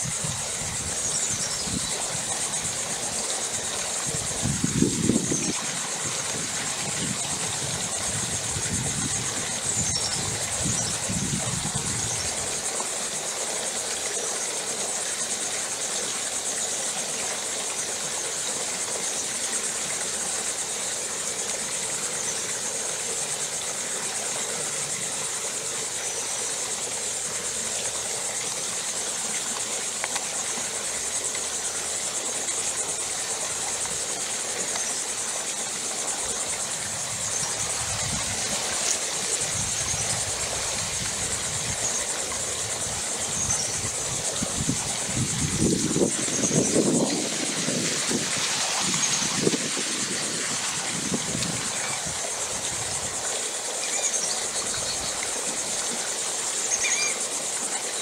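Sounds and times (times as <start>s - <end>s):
even hiss: 0.0s - 58.0s
insect chorus drone: 0.0s - 58.0s.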